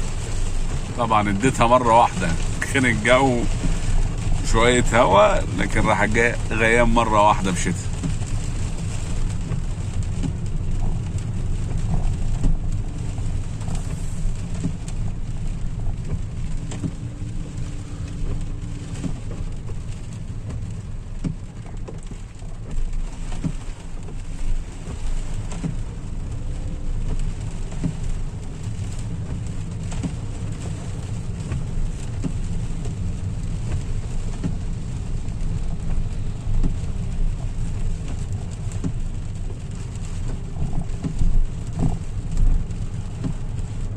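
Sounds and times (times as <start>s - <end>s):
engine and tyres on wet road: 0.0s - 43.9s
rain drops ticking on car: 0.0s - 43.9s.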